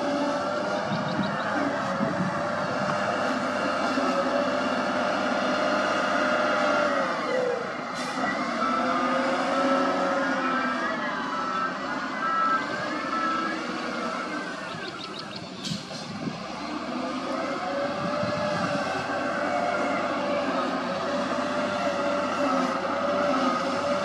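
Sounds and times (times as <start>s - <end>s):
diesel engine under load: 0.0s - 24.0s
engine whine: 0.0s - 24.0s.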